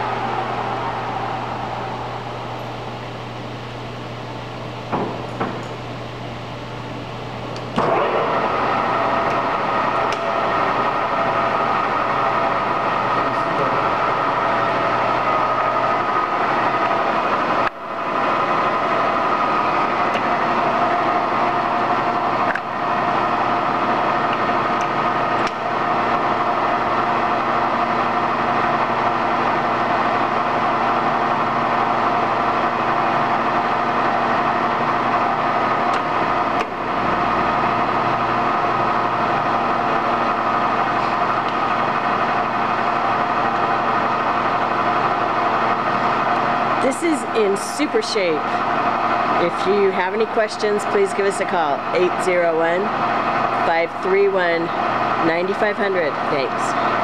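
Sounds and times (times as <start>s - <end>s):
lathe running hum: 0.0s - 57.0s.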